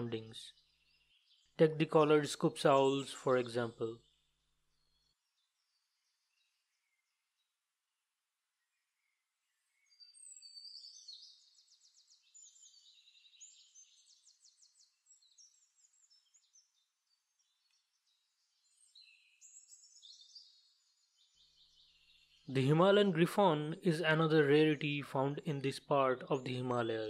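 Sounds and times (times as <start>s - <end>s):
small birds chirping and trilling: 0.0s - 4.2s, 4.8s - 7.4s, 8.7s - 27.0s.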